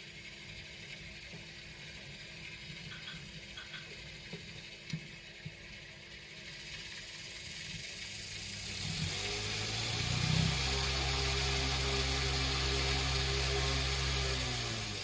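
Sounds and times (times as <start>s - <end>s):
electric fan whirring: 0.0s - 15.0s.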